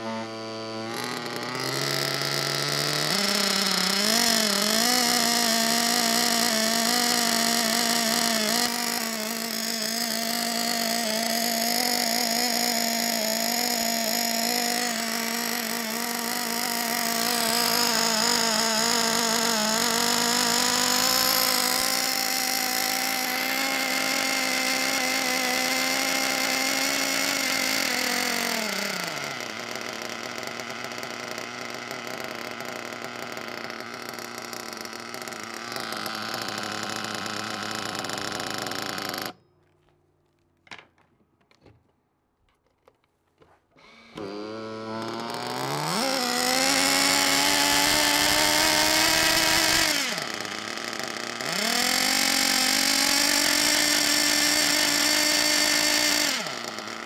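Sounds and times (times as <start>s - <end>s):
small nitro engine revving: 0.0s - 39.4s, 43.8s - 57.0s.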